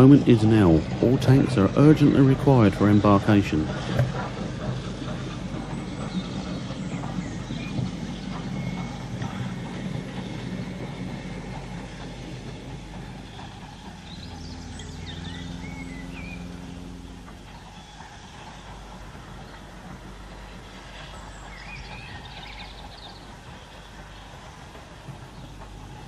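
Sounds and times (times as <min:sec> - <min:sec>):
model train wheels clattering: 0:00.0 - 0:26.0
steady low hum: 0:00.0 - 0:26.0.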